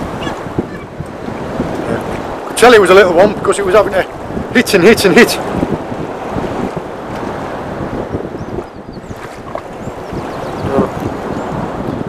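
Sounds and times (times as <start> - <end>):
sea water lapping around boat: 0.0 - 12.0
wind buffeting microphone: 0.0 - 12.0.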